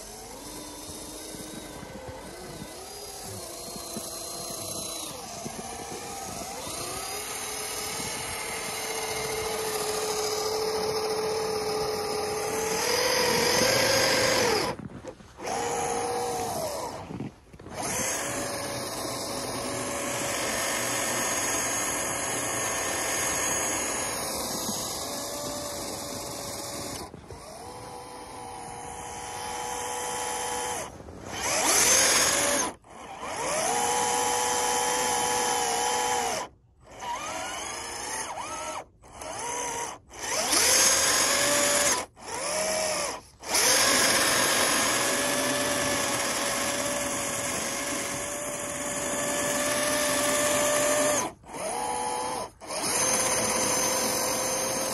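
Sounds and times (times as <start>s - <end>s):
toy truck electric motor whining: 0.0s - 54.9s.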